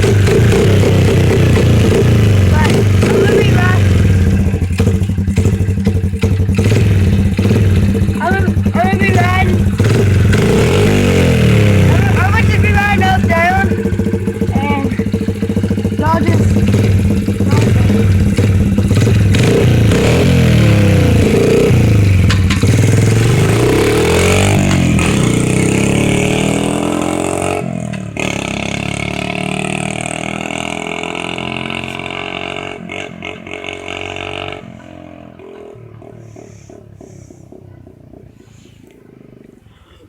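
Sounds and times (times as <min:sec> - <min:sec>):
dirt bike engine revving: 0:00.0 - 0:38.3.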